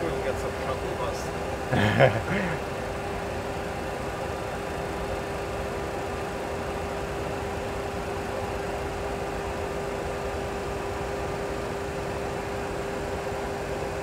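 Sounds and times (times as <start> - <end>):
cockpit hiss and rumble: 0.0 - 14.0.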